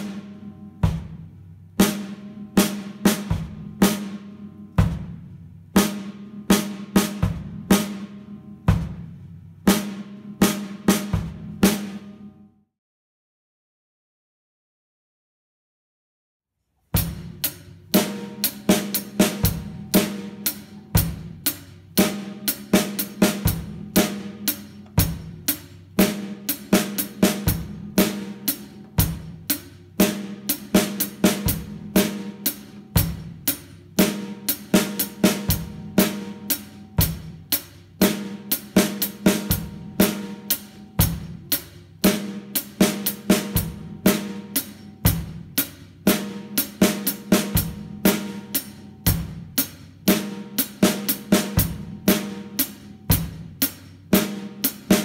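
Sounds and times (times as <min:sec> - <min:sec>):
drum kit basic beat: 0:00.0 - 0:12.4, 0:17.0 - 0:55.0.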